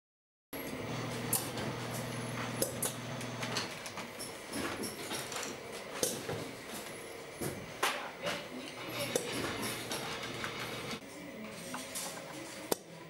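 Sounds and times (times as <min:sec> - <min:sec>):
low machine hum: 0:00.6 - 0:13.0.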